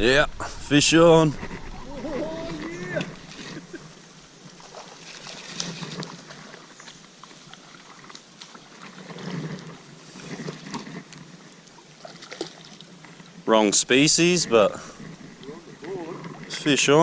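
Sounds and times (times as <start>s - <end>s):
water splashing: 0.0s - 17.0s.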